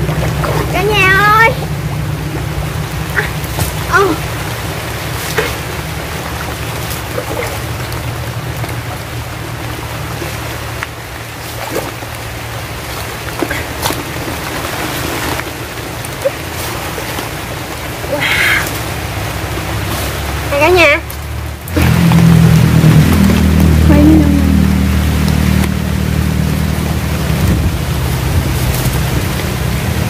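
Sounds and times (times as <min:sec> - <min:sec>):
knocks and splashes in water: 0:00.0 - 0:30.0
rushing outdoor noise: 0:00.0 - 0:30.0.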